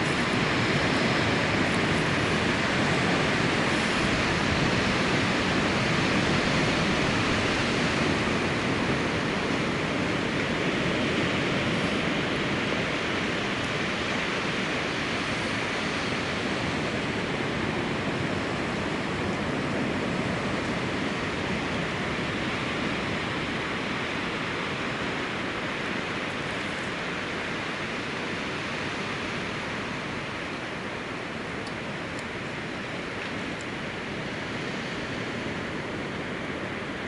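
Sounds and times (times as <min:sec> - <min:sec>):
strong wind blowing: 0:00.0 - 0:37.0.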